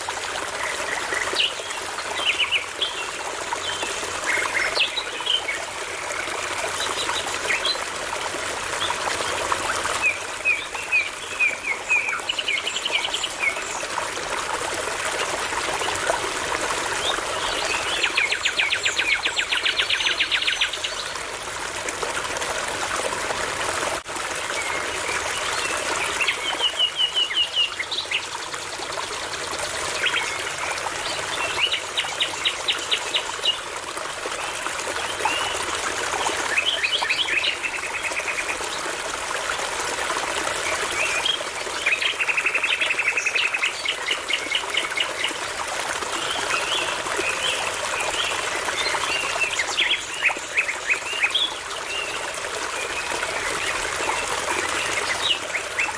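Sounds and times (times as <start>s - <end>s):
brook babbling: 0.0s - 55.9s.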